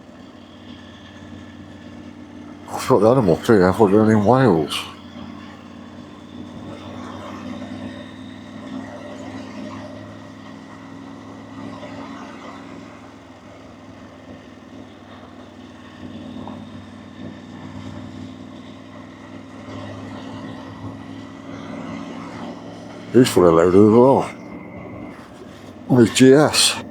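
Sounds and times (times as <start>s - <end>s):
motorcycle engine cruising: 0.0s - 25.9s.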